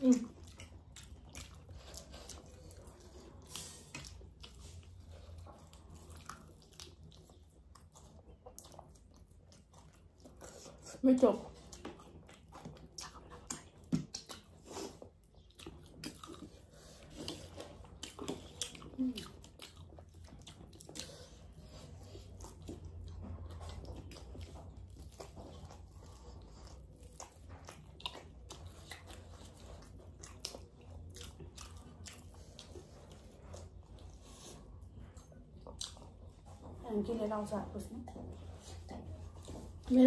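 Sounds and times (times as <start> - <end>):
people chewing crunchy food: 0.0 - 40.0.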